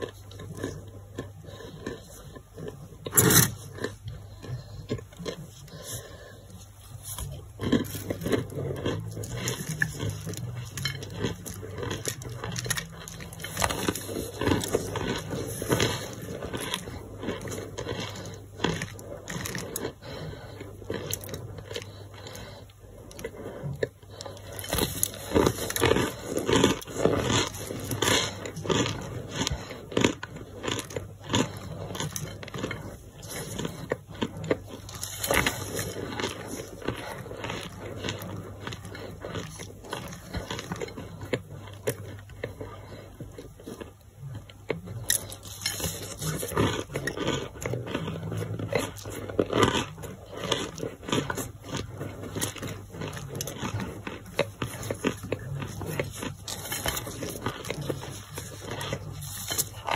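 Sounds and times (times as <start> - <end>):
brick crunching and crumbling: 7.2 - 22.0, 23.0 - 59.9.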